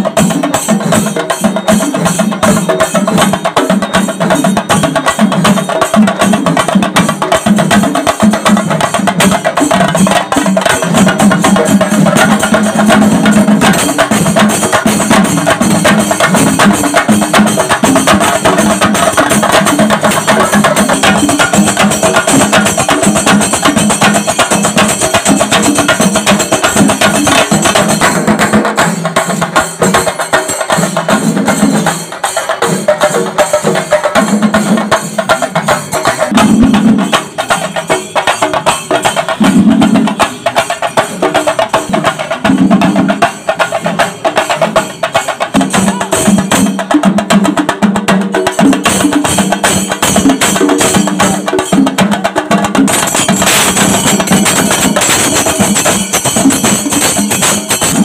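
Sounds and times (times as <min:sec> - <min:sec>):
ensemble of drums beaten with sticks: 0:00.0 - 0:58.0.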